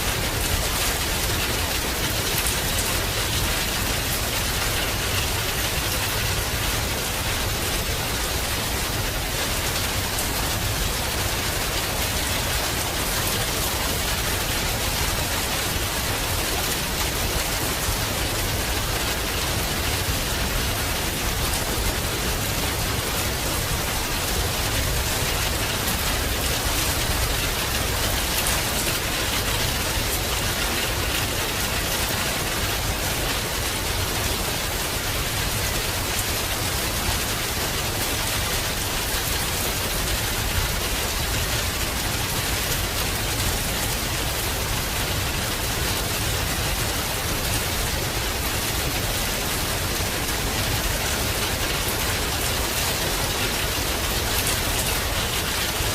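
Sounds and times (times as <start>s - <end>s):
heavy rain hiss: 0.0s - 55.9s.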